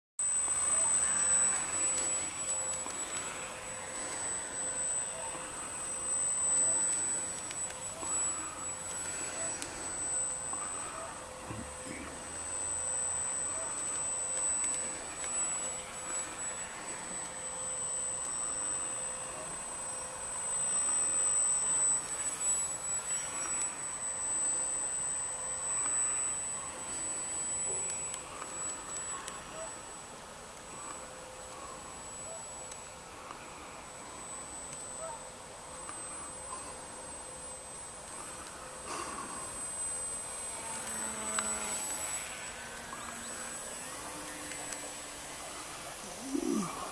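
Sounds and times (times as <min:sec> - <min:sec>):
model aircraft motor whining: 0:00.2 - 0:46.9
steady hiss: 0:00.2 - 0:46.9.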